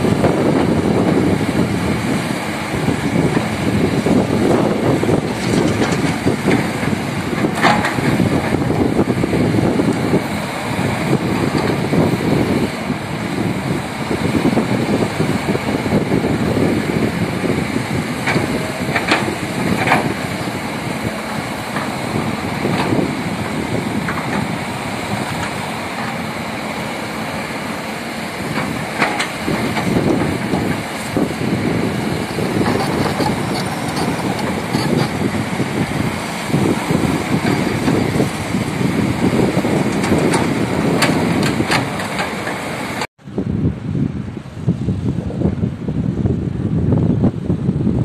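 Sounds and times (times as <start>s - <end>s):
construction machinery engine: 0.0s - 43.3s.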